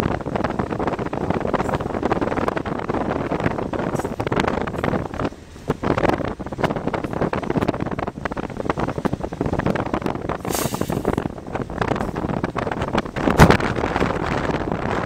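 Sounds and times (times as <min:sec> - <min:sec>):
rumble of moving freight train: 0:00.0 - 0:15.0
wind buffeting microphone: 0:00.0 - 0:15.0.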